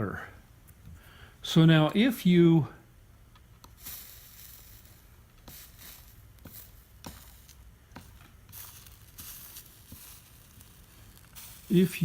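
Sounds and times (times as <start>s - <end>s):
solder crackling and hissing: 0.0s - 12.0s.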